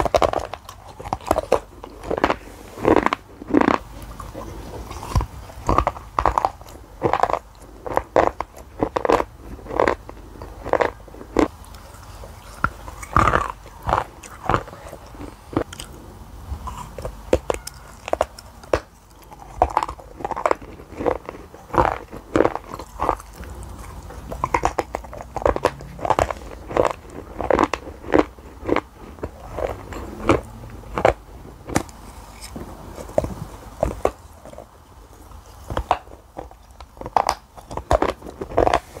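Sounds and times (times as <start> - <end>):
chewing: 0.0 - 39.0.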